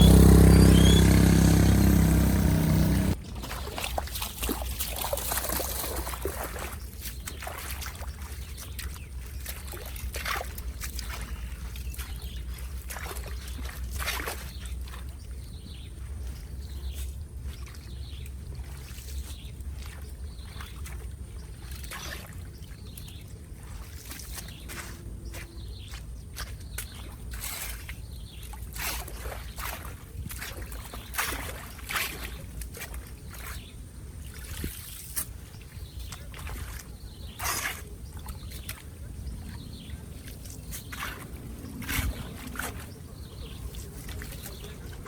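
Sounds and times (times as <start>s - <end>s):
water trickling and sloshing: 0.0s - 45.0s
small knocks and splashes: 1.2s - 15.3s, 17.4s - 45.0s.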